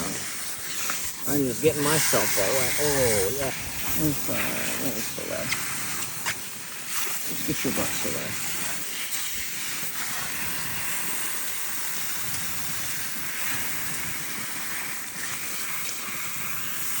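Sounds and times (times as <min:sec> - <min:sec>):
shower spray running: 0:00.0 - 0:17.0.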